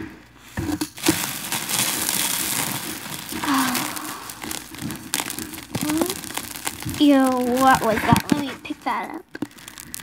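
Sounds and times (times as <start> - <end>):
crinkling and rustling: 0.4 - 10.0.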